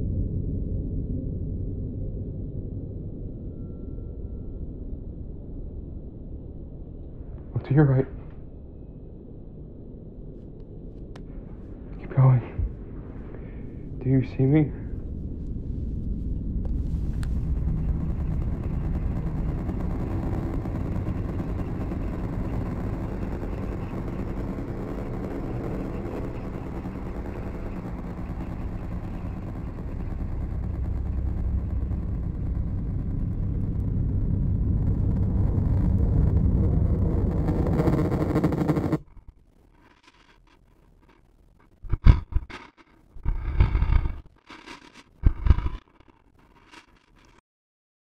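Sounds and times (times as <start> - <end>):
dark droning rumble: 0.0 - 47.4.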